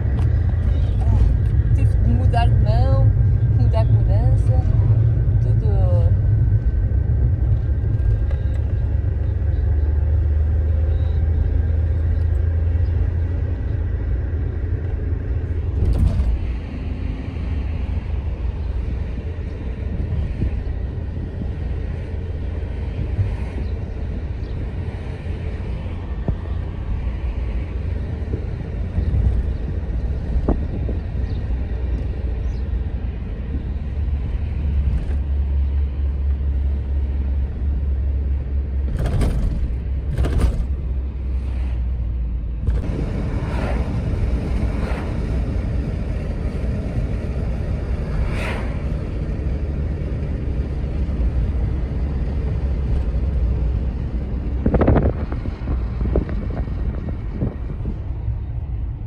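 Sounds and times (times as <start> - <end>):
car engine running: 0.0 - 59.0
low road rumble: 0.0 - 59.0.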